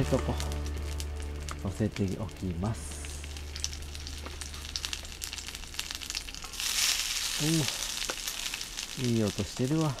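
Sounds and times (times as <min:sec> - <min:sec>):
crackling pops: 0:00.0 - 0:10.0
patties sizzling in a frying pan: 0:00.0 - 0:10.0.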